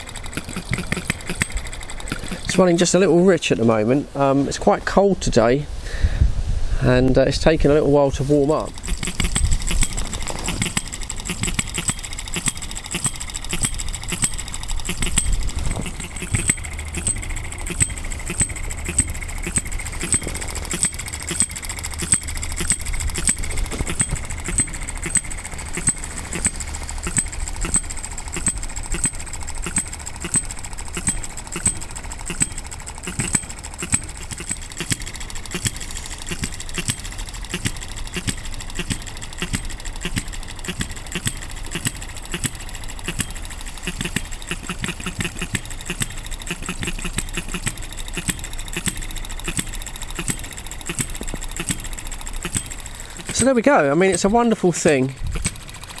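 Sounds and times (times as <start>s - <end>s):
small model engine ticking: 0.0s - 3.6s, 7.3s - 56.0s.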